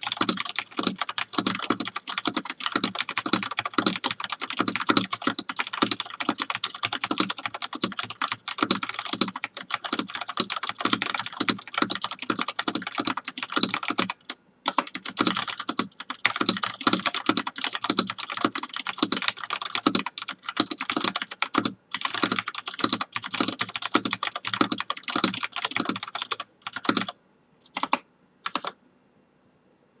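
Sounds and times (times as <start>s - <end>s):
fast typing on mechanical keyboard: 0.0s - 28.8s.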